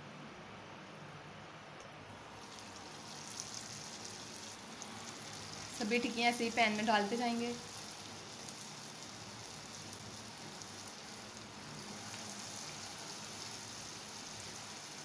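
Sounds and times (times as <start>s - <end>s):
food sizzling in hot oil: 2.2s - 15.0s.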